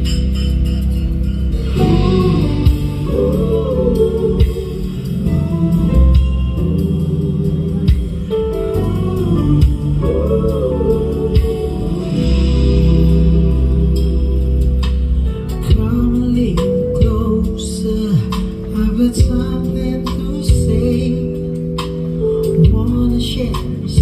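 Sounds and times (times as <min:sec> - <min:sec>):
bass-heavy music with singing: 0:00.0 - 0:24.0.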